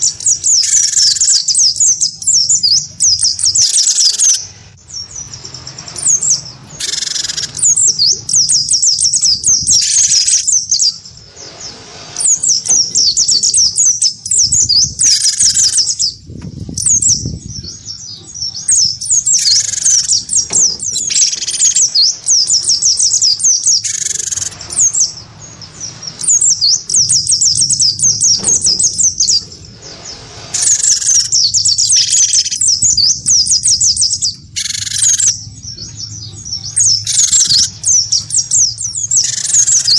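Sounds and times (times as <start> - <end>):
birds twittering rapidly: 0.0 - 39.9.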